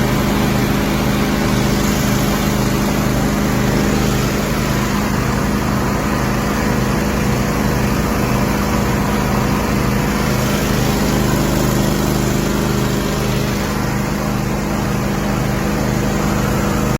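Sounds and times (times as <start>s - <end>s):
sprayer engine running: 0.0s - 16.9s.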